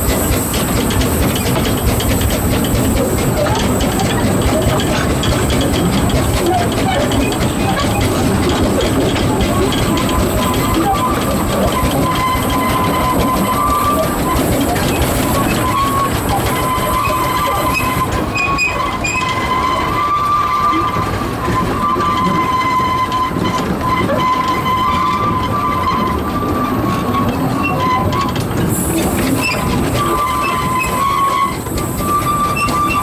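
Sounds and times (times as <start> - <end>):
steam locomotive running rumble: 0.0 - 33.0
wheel flange squeal: 0.0 - 33.0.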